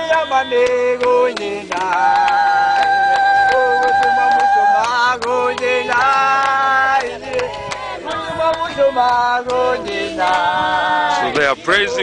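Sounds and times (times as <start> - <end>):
hand clapping: 0.0 - 10.5
group singing in long held notes: 0.0 - 12.0.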